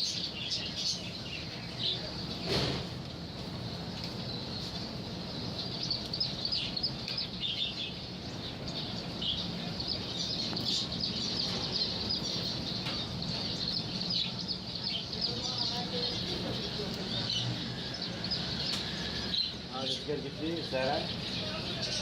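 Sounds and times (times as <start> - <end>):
caged birds chirping: 0.0 - 22.0.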